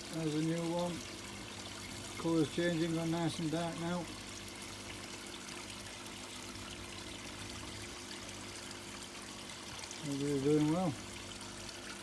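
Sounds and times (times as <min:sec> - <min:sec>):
faint steady hum: 0:00.0 - 0:12.0
water pouring into a pond: 0:00.0 - 0:12.0.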